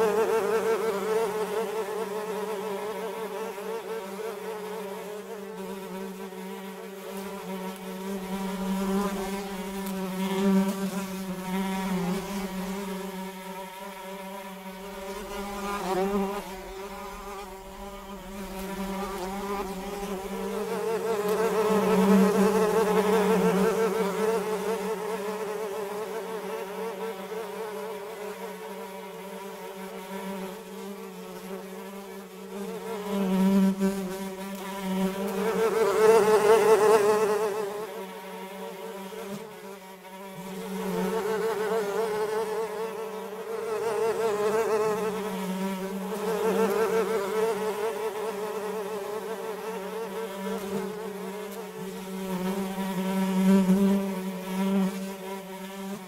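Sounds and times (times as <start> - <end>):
flies buzzing: 0.0 - 56.0.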